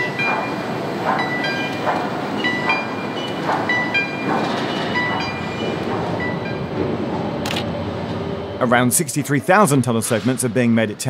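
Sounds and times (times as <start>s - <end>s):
rhythmic machinery knocking clatter: 0.0s - 11.0s.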